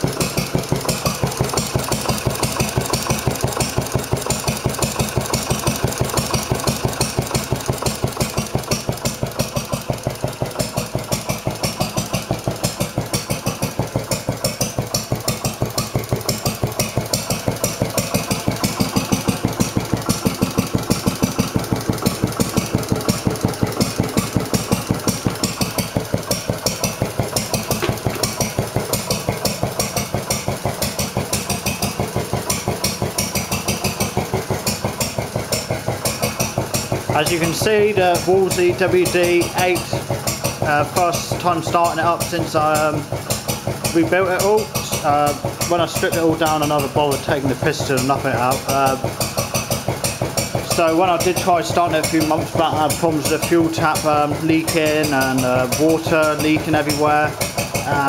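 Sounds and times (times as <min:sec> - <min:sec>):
stationary engine running: 0:00.0 - 0:58.0.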